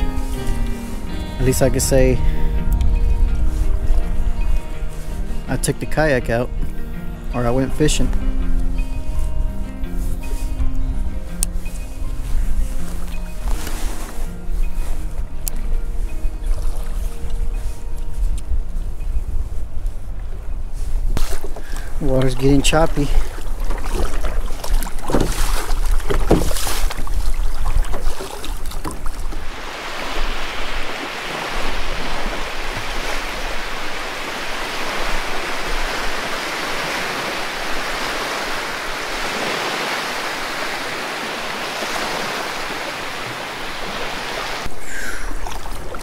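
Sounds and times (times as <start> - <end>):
wind rumbling on microphone: 0.0 - 7.4, 8.0 - 46.0
water splashing around kayak: 0.0 - 46.0.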